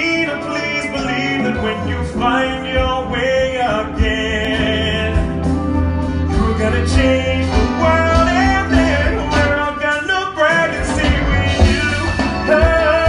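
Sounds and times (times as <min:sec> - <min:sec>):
band accompaniment with bass: 0:00.0 - 0:13.0
person singing: 0:00.0 - 0:13.0.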